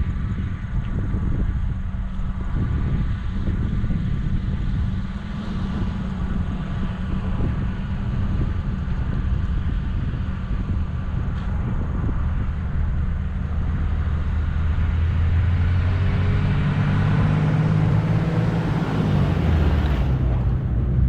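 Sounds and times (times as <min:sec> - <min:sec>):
road noise: 0:00.0 - 0:21.0
vehicle engine running: 0:00.0 - 0:21.0.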